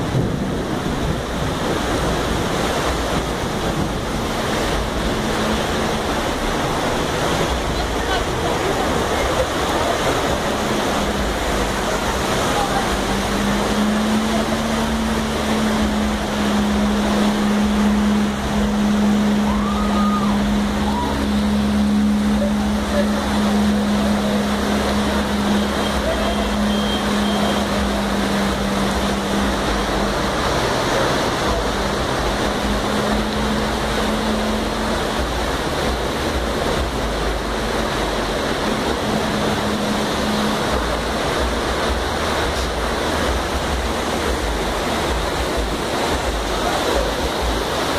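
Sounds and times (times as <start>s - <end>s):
cars splashing through water: 0.0s - 47.9s
floodwater rushing: 0.0s - 47.9s
heavy rain pouring: 0.0s - 47.9s.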